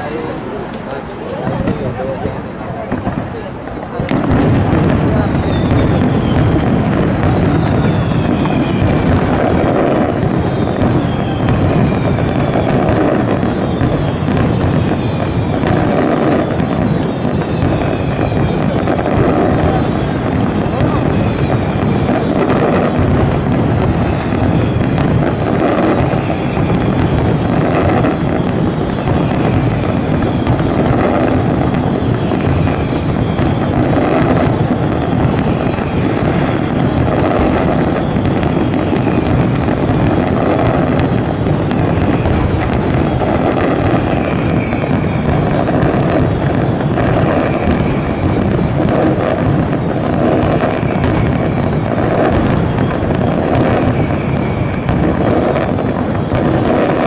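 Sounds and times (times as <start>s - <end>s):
fireworks cracks and crackles: 0.0s - 57.0s
fireworks shells bursting: 0.0s - 57.0s.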